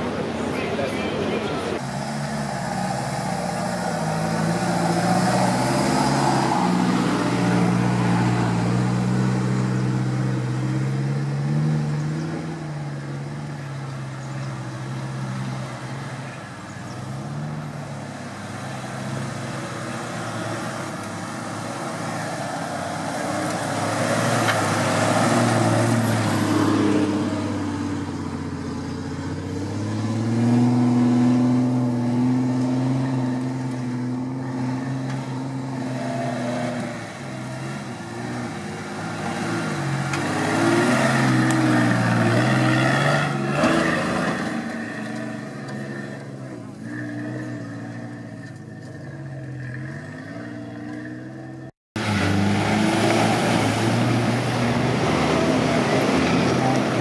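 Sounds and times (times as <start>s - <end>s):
off-road engine revving: 0.0s - 57.0s
second engine: 0.0s - 57.0s.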